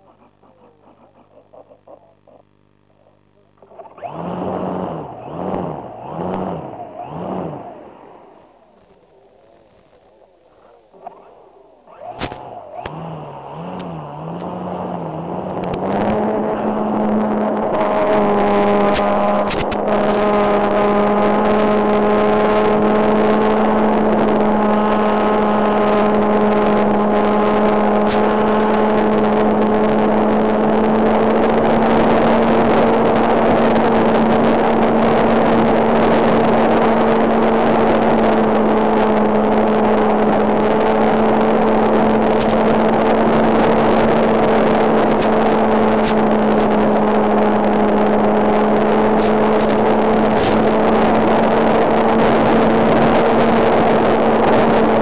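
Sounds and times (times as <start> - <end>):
model plane motor buzzing: 0.0 - 55.0.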